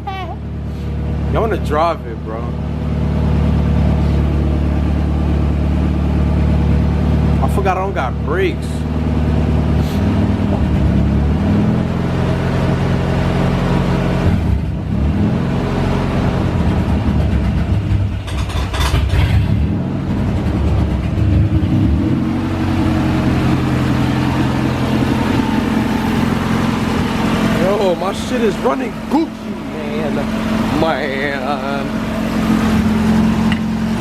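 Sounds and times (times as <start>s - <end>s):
car engine idling: 0.0s - 14.9s, 15.9s - 34.0s.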